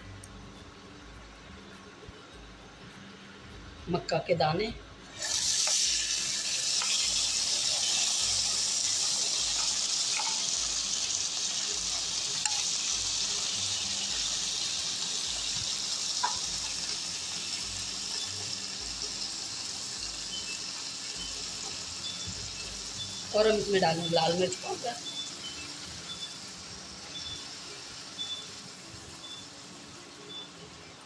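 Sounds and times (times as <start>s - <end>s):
hot fat sizzling in a pan: 5.0s - 31.0s.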